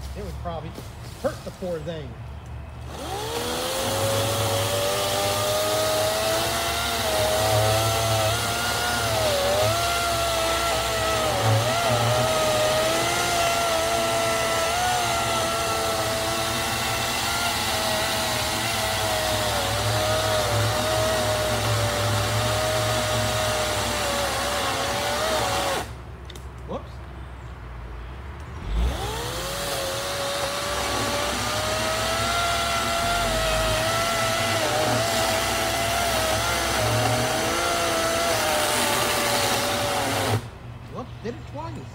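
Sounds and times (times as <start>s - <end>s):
electric chainsaw cutting log: 2.8s - 26.0s, 28.6s - 40.5s.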